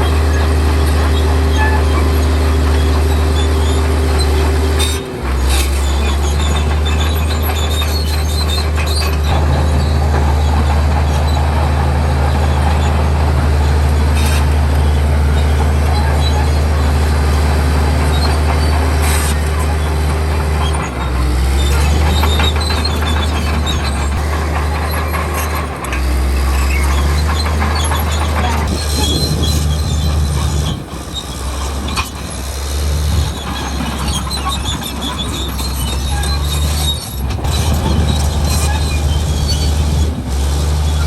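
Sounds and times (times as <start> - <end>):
diesel engine under load: 0.0 - 41.0
steel tracks clanking and squealing: 0.0 - 41.0.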